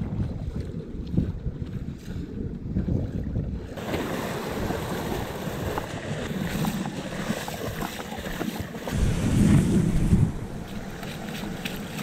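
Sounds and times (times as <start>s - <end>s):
kayak splashing through water: 0.0s - 12.0s.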